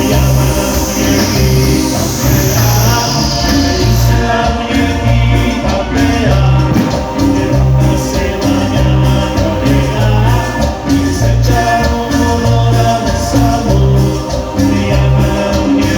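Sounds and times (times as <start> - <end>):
live latin band over pa: 0.0 - 15.9
percussion: 0.0 - 15.9
pulsing bass line: 0.0 - 15.9.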